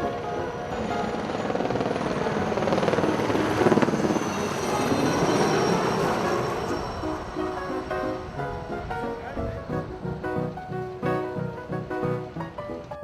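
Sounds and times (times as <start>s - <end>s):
pulsing engine passing by: 0.0s - 11.9s.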